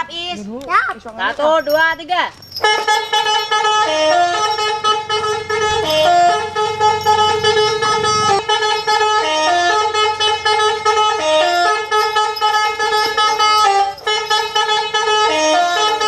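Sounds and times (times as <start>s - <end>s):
musical horn playing a looping tune: 2.6s - 16.0s.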